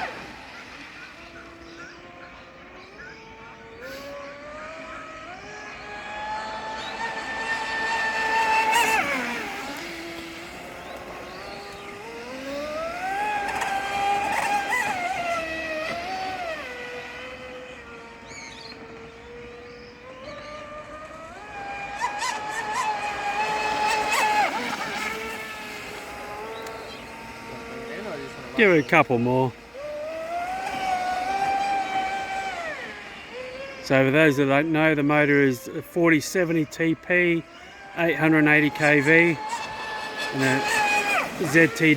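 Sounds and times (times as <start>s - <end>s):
rc boat motor whining: 0.0s - 41.9s.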